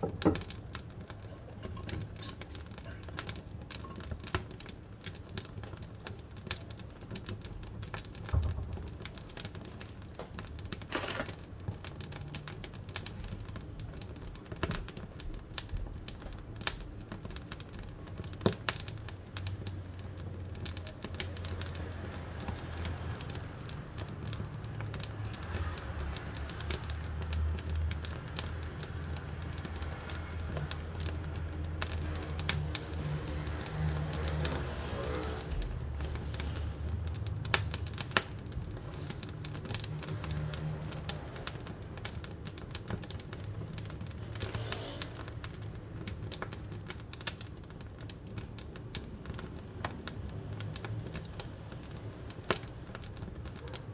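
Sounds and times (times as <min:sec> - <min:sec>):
low rumble of flames: 0:00.0 - 0:53.9
wood fire crackling in stove: 0:00.0 - 0:53.9.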